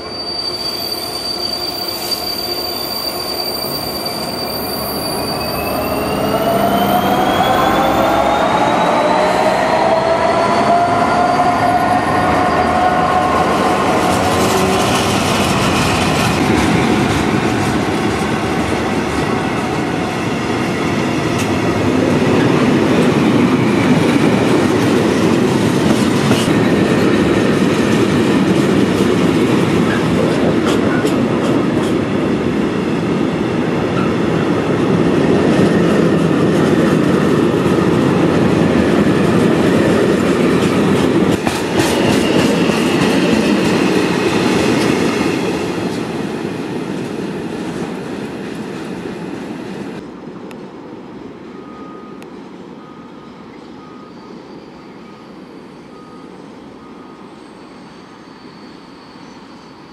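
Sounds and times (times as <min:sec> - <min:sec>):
train wheels rumbling on rail: 0:00.0 - 0:54.4.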